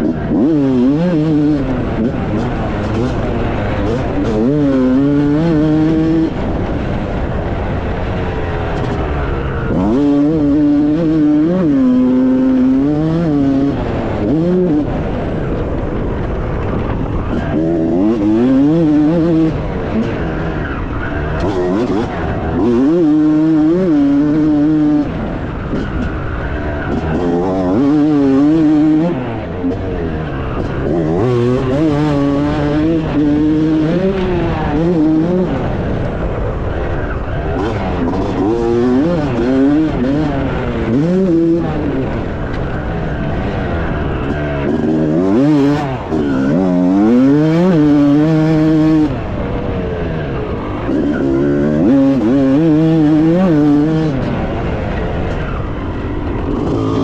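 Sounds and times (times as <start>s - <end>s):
motocross bike engine revving: 0.0s - 57.0s
wind noise: 0.0s - 57.0s.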